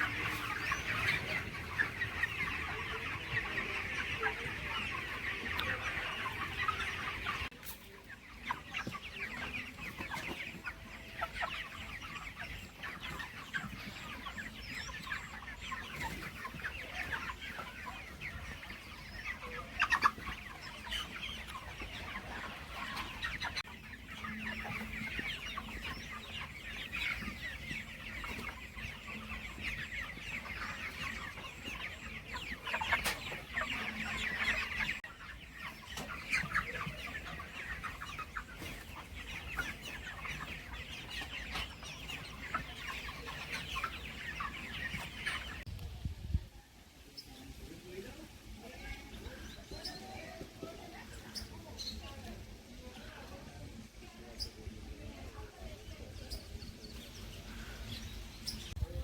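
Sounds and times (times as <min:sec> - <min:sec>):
chickens clucking and cheeping: 0:00.0 - 0:59.0.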